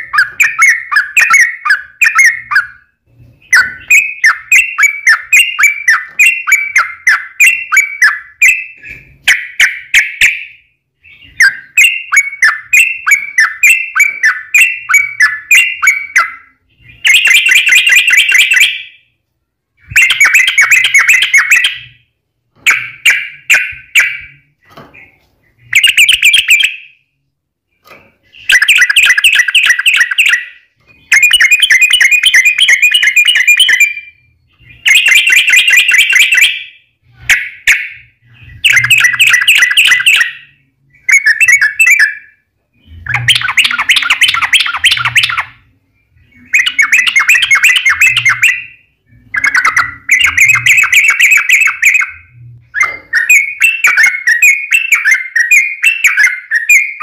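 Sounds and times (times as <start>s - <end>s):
bird chattering song: 0.0s - 19.1s, 19.8s - 27.1s, 27.7s - 57.0s.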